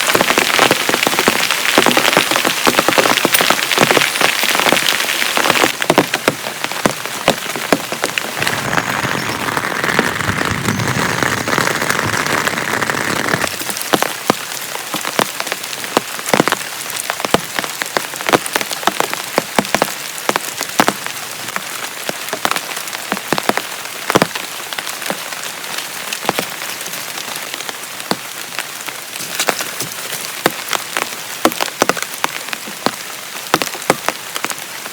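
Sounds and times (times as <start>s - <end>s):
heavy rain falling: 0.0s - 34.9s
raindrops striking a surface: 0.0s - 34.9s.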